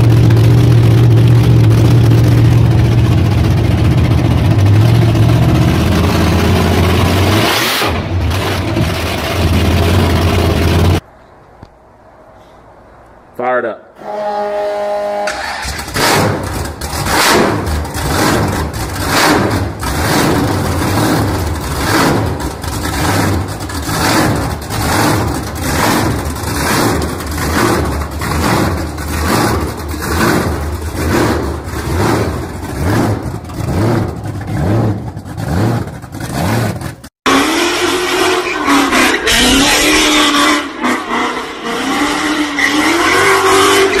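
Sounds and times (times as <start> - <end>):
supercharged engine revving: 0.0 - 11.0, 15.2 - 44.0.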